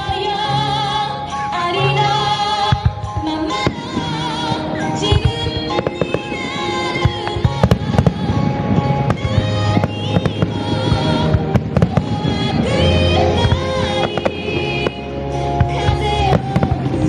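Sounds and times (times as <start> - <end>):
music: 0.0 - 17.0
fireworks bangs and crackles: 2.6 - 17.0.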